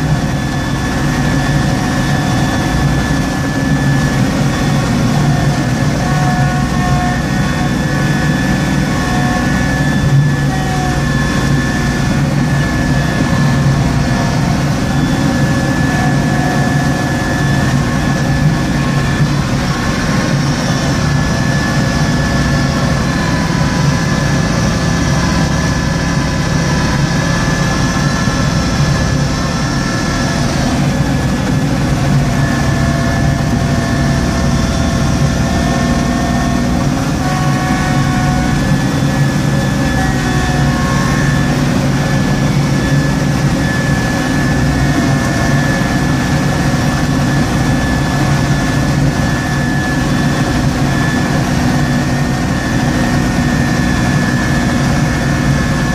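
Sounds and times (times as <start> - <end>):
steady high whine: 0.0 - 55.9
tractor diesel engine: 0.0 - 55.9.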